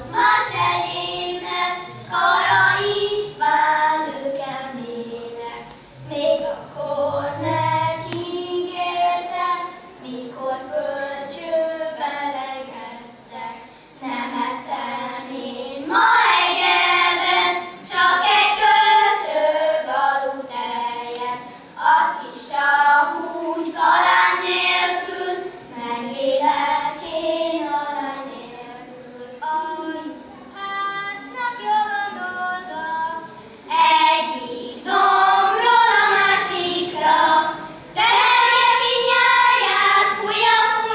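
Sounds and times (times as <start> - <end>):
children singing: 0.0 - 40.9.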